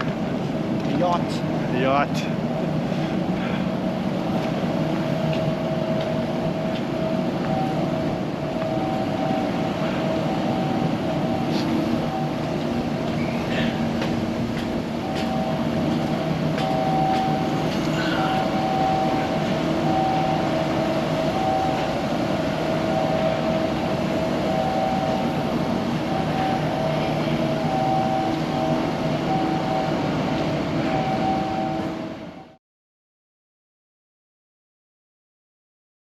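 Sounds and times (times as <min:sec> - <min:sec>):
industrial machinery noise: 0:00.0 - 0:32.6.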